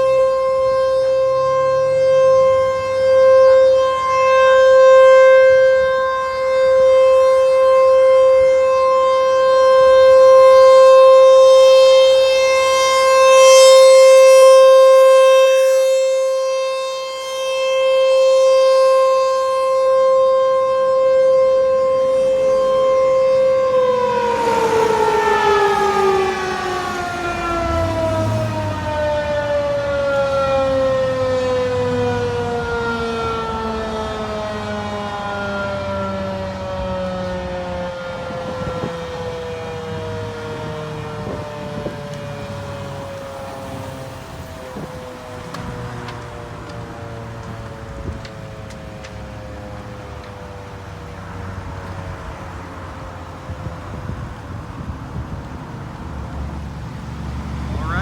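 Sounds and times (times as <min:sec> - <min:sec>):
rotating warning siren: 0:00.0 - 0:58.0.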